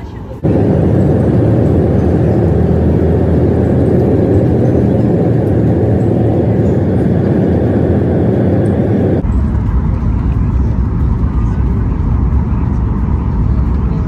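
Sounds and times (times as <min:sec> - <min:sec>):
jet airliner rumble in cabin: 0:00.0 - 0:14.0
wheel and airframe rumble: 0:00.0 - 0:14.0.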